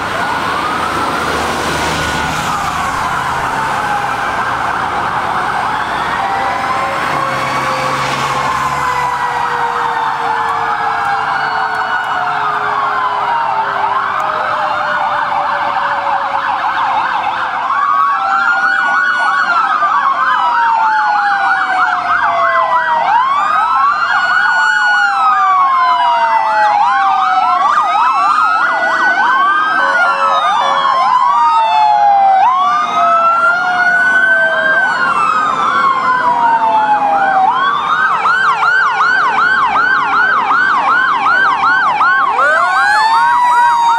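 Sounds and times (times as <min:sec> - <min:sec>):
sirens wailing: 0:00.0 - 0:43.9
sirens yelping: 0:00.0 - 0:43.9.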